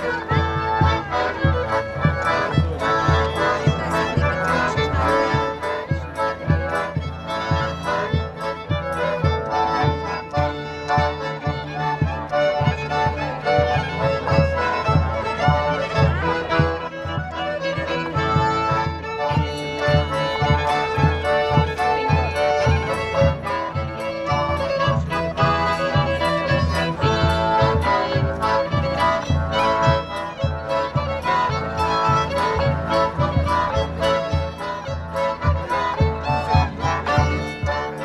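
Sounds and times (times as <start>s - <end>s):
accordion: 0.0s - 38.0s
fiddle: 0.0s - 38.0s.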